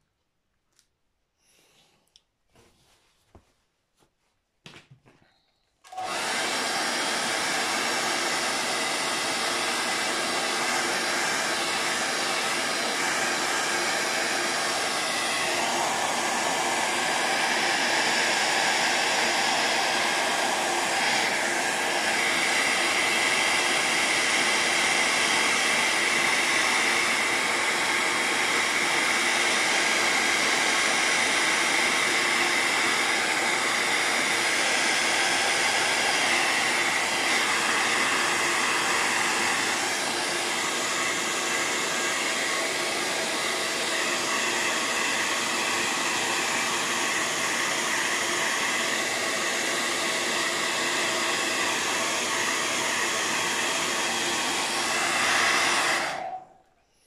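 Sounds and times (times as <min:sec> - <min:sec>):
hair dryer running: 0:05.8 - 0:56.7.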